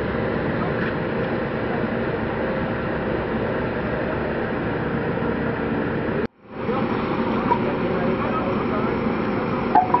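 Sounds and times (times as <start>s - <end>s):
rumbling outdoor noise: 0.0s - 10.0s.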